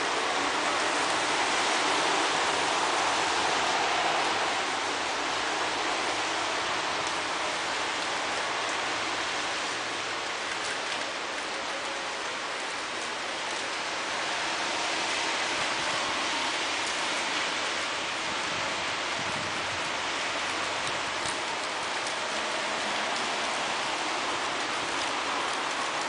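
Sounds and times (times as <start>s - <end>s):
rain falling on street: 0.0s - 26.0s.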